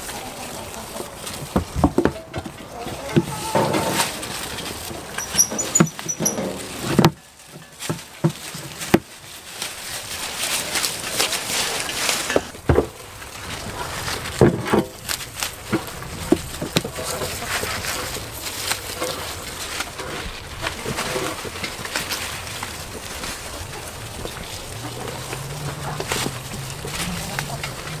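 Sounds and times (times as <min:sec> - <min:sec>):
goats tearing and chewing leaves: 0:00.0 - 0:28.0.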